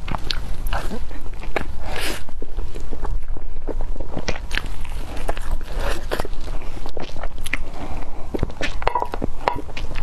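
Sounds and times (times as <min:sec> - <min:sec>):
lip smacks: 0:00.0 - 0:10.0
wet chewing: 0:00.0 - 0:10.0.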